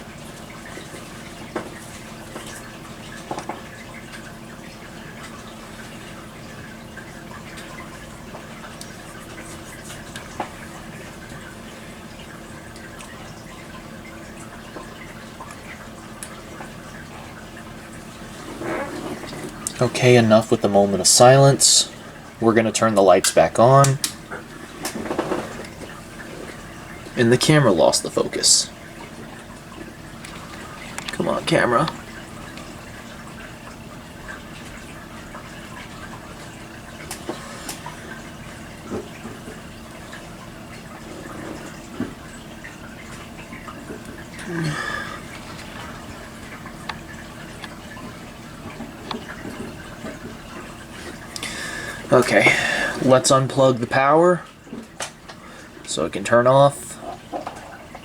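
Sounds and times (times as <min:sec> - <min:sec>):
faint hiss and hum: 0:00.0 - 0:58.0.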